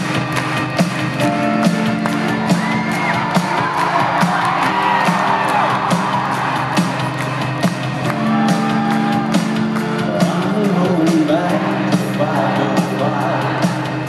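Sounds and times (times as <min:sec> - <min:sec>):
crowd whooping and cheering: 0:00.0 - 0:14.0
rock band playing: 0:00.0 - 0:14.0.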